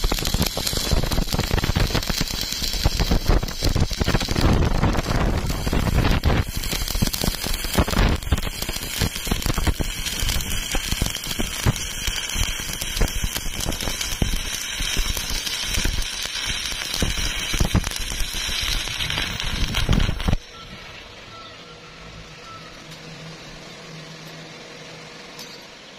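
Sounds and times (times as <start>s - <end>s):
welding arc crackling: 0.0s - 25.8s.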